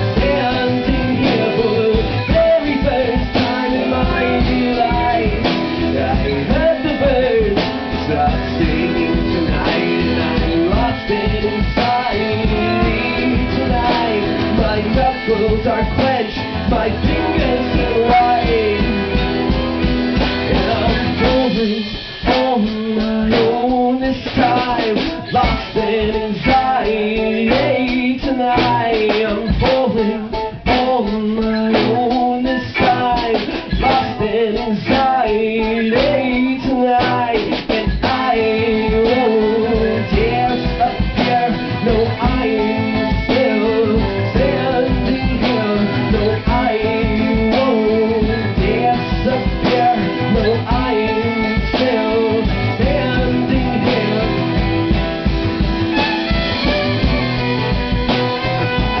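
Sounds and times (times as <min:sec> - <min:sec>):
band playing guitar and drums: 0:00.0 - 0:59.0.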